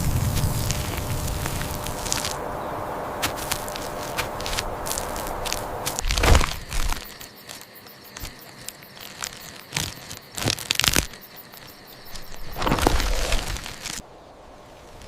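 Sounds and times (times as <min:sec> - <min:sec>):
dry crackling and crunching: 0:00.0 - 0:15.0.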